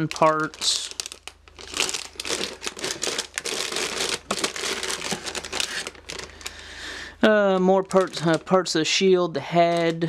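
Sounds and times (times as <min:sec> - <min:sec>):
plastic bags crinkling: 0:00.0 - 0:08.8, 0:09.6 - 0:10.0.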